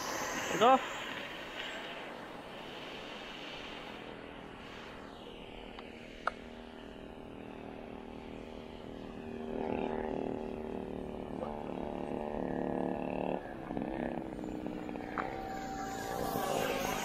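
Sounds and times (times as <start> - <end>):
model jet whine flying past: 0.0 - 17.0
steady pitched drone: 0.0 - 17.0.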